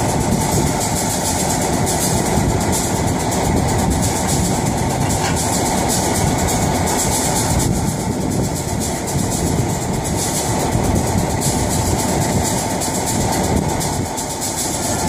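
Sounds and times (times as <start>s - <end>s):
diesel locomotive rumbling: 0.0s - 15.0s
turntable rotating: 0.0s - 15.0s.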